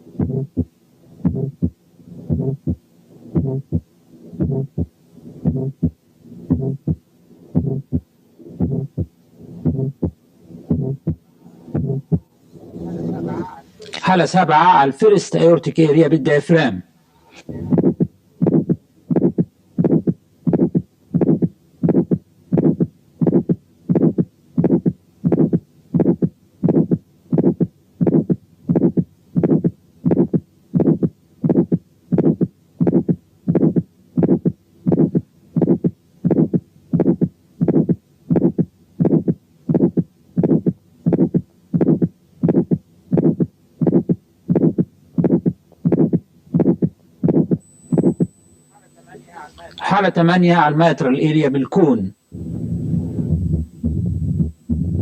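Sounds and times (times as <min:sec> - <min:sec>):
heartbeat through stethoscope: 0:00.2 - 0:12.3, 0:17.6 - 0:48.2, 0:52.3 - 0:55.0
heart murmur: 0:00.2 - 0:13.6, 0:17.5 - 0:47.6, 0:52.3 - 0:55.0.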